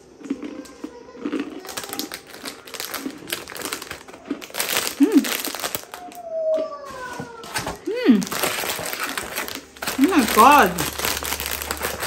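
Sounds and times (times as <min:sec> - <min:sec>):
plastic packet crinkling: 0:01.2 - 0:12.0.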